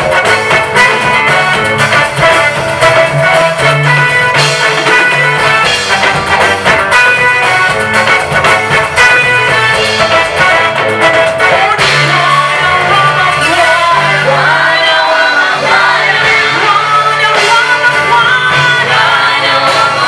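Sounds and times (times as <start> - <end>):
gospel song with voices singing: 0.0 - 20.0
steady bass line: 0.0 - 20.0.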